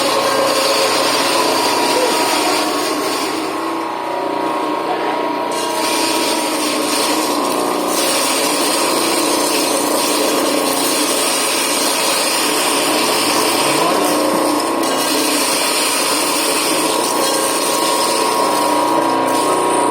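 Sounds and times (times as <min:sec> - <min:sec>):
grinding machine humming: 0:00.0 - 0:19.9.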